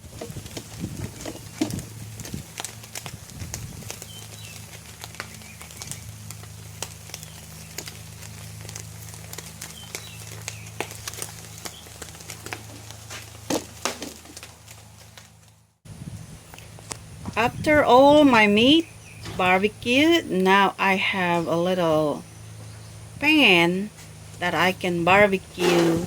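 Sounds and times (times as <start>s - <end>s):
ribs crackling on barbecue: 0.0s - 26.0s
steady low hum: 0.0s - 26.0s.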